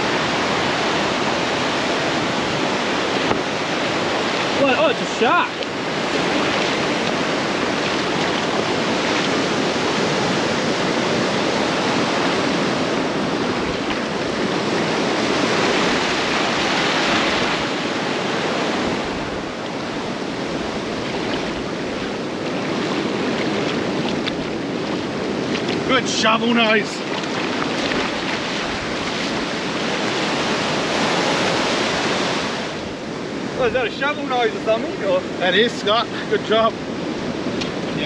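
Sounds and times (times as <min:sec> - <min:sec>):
surf washing over sand: 0:00.0 - 0:38.0.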